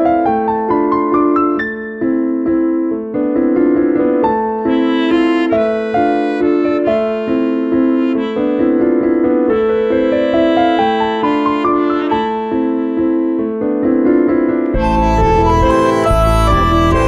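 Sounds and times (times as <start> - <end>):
keyboard melody over held chords: 0.0 - 17.0.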